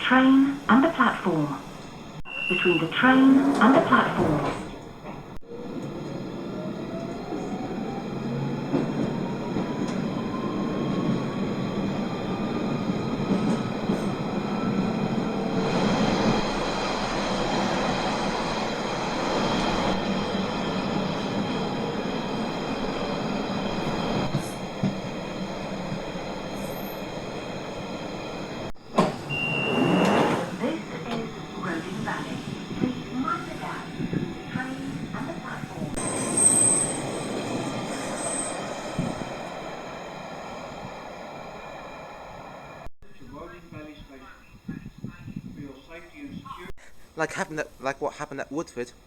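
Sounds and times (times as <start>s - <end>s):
train wheels rumbling on rails: 2.9s - 46.7s.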